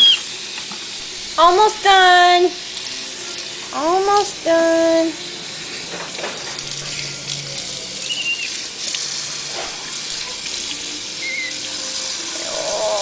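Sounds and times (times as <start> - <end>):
running tap water splashing: 0.0 - 13.0.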